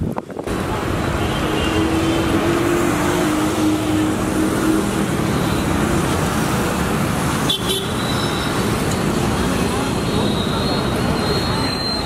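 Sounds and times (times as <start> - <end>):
motorbikes and vehicles passing: 0.0 - 12.0.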